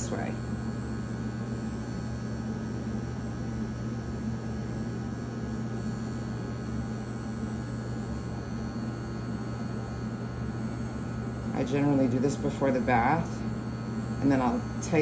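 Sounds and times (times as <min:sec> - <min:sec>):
hair clipper humming: 0:00.0 - 0:15.0.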